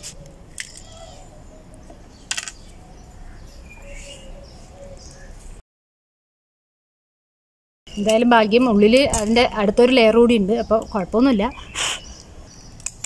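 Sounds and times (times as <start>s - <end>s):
birds chirping faintly: 0.0s - 5.6s, 7.9s - 13.0s.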